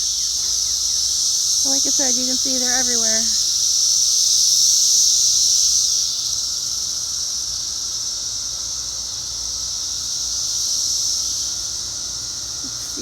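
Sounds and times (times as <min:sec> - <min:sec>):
cicadas chorus drone: 0:00.0 - 0:13.0.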